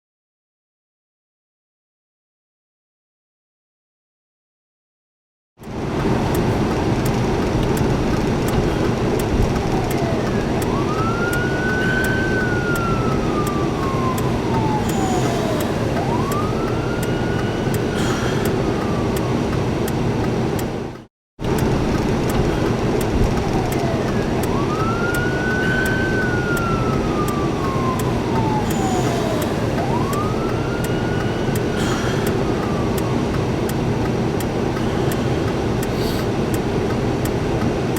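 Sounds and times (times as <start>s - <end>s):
engine and traffic rumble: 5.6s - 37.9s
fire engine siren wailing: 5.6s - 37.9s.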